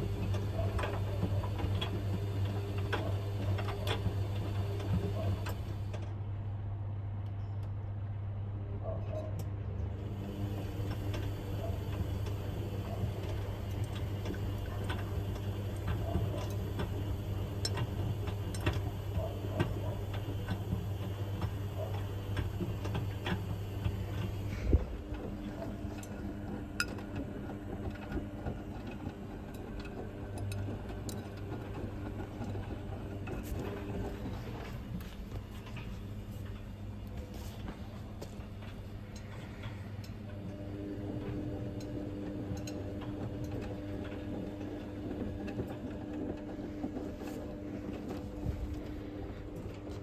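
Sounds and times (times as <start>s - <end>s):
washing machine motor hum: 0.0s - 6.3s, 9.9s - 50.0s.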